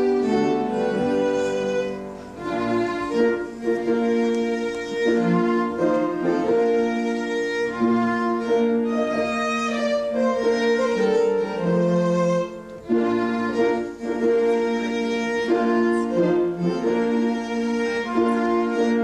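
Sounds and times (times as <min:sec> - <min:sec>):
bowed strings processional music: 0:00.0 - 0:19.0.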